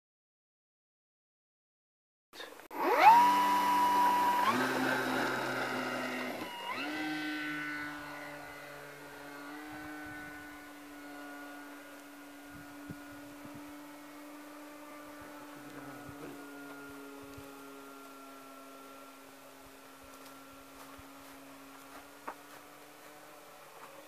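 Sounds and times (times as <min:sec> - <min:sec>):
model plane motor whine: 0:02.7 - 0:24.0.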